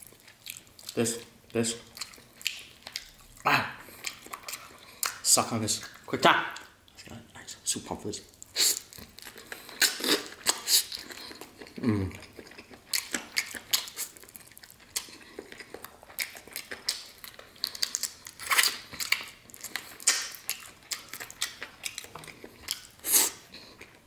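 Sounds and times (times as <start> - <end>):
man chewing food: 0.0 - 7.6, 8.3 - 24.0.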